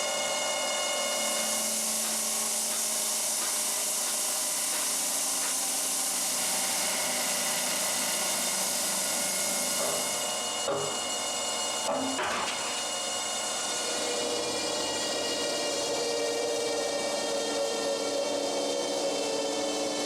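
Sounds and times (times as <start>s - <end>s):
stone saw cutting: 0.0s - 20.0s.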